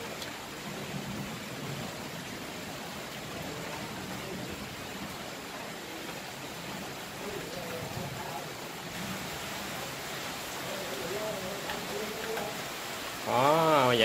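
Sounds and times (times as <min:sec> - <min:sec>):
rain on a metal roof: 0:00.0 - 0:14.0.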